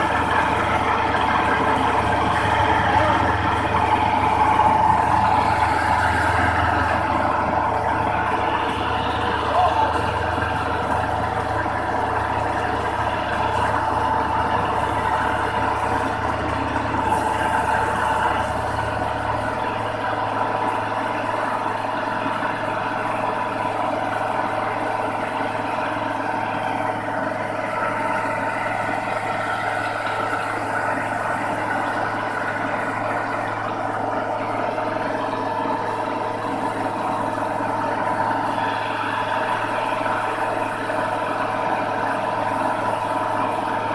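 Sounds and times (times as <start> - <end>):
combine harvester running: 0.0 - 43.9
grain pouring from auger: 0.0 - 43.9.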